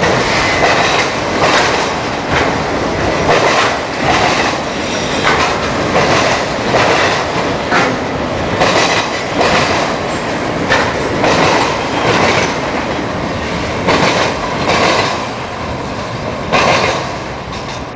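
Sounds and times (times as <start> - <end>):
steady train rumble: 0.0 - 17.9
train wheels clacking over joints: 0.0 - 17.9.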